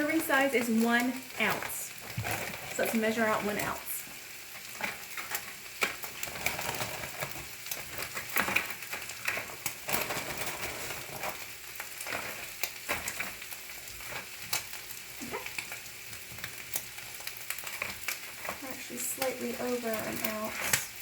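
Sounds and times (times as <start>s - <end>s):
meat sizzling in a skillet: 0.0s - 21.0s.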